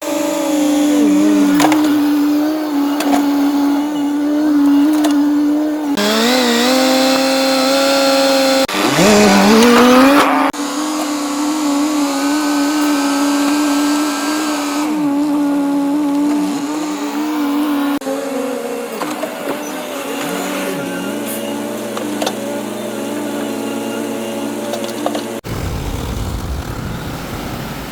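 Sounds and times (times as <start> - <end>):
excavator engine whining: 0.0 - 27.9.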